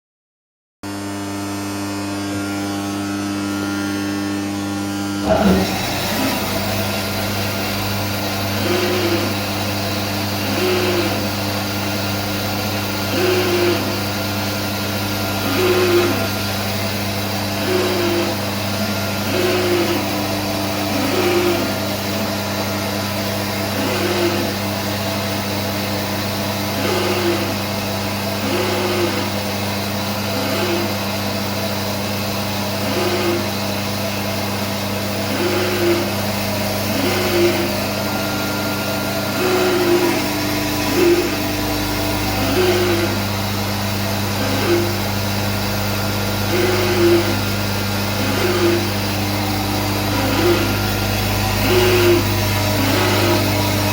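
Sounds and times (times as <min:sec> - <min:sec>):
bandsaw motor hum: 0:00.8 - 0:53.9.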